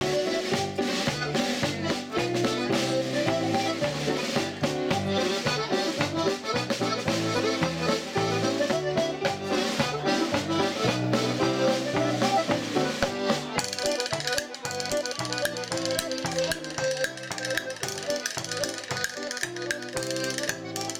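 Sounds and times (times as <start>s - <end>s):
accordions and banjo dance tune: 0.0s - 20.9s
drum beat: 0.0s - 20.9s.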